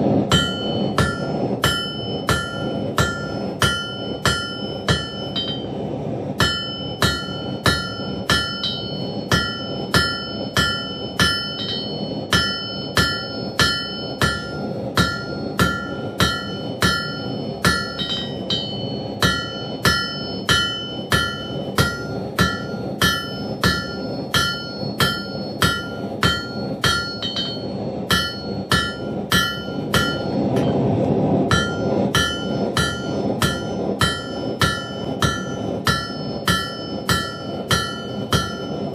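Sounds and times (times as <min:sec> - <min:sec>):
steady rushing noise: 0:00.0 - 0:38.9
hammer striking steel on anvil: 0:00.2 - 0:38.9
anvil ringing: 0:00.3 - 0:05.8, 0:06.4 - 0:30.9, 0:31.5 - 0:38.9.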